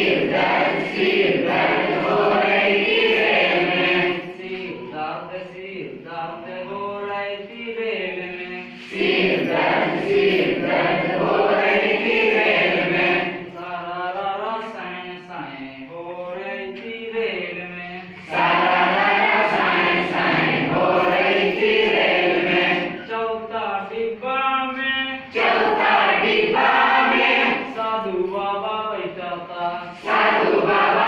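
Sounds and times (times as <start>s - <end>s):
group singing in chorus: 0.0s - 24.0s, 24.8s - 31.0s.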